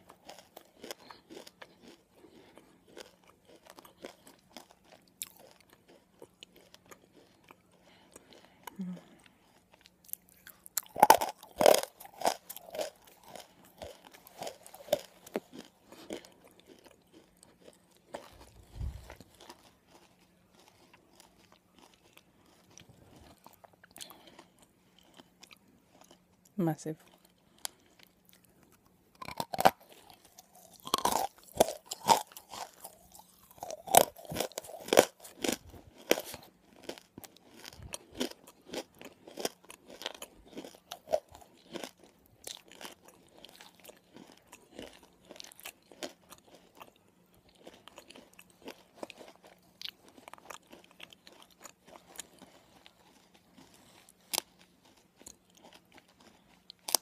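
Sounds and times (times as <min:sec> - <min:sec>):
chalk crunching while chewed: 0:00.0 - 0:57.0.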